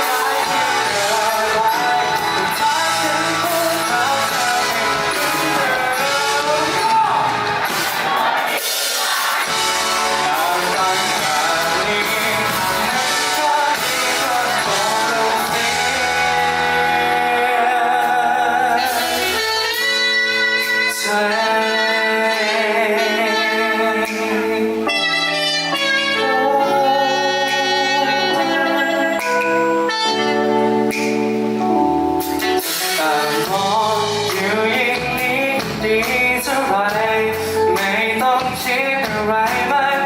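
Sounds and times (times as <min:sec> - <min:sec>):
person singing: 0:00.0 - 0:08.4, 0:09.0 - 0:40.0
live band playing pop ballad: 0:00.0 - 0:40.0.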